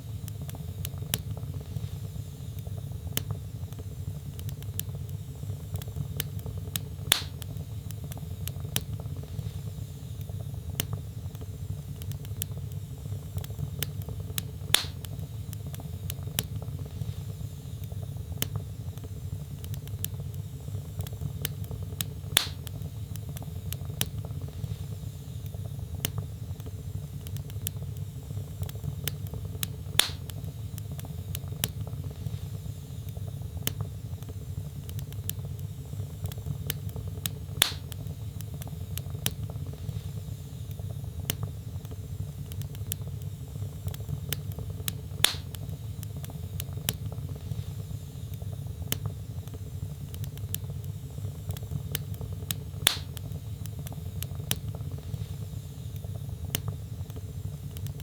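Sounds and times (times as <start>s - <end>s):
burning logs popping: 0.0s - 58.0s
fire rumbling and crackling: 0.0s - 58.0s.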